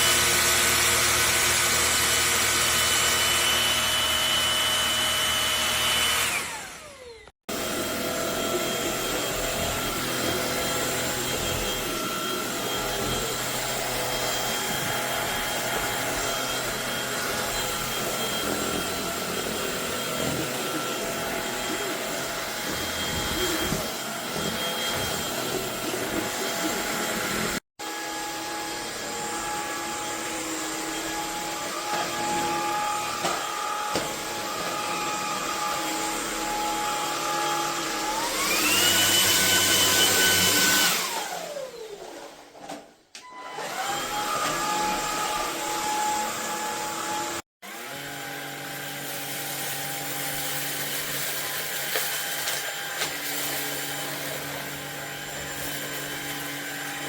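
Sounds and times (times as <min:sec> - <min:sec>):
stick vacuum motor whining: 0:00.0 - 0:42.2, 0:43.1 - 0:57.0.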